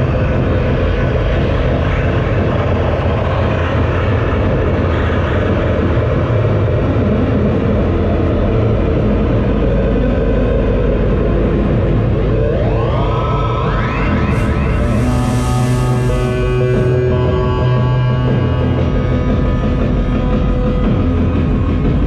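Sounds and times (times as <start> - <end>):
electronic noise drone with hiss: 0.0 - 22.0.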